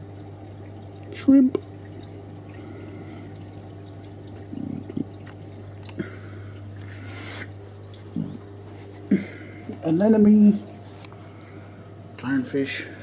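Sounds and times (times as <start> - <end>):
aquarium pump hum: 0.0 - 13.0
faint trickling water: 0.0 - 13.0.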